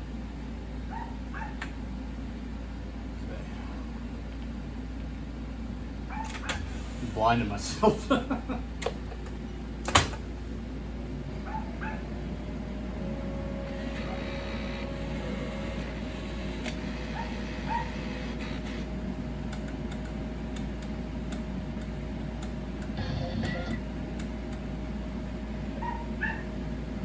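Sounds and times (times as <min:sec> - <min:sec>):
slot machine electrical hum: 0:00.0 - 0:27.0.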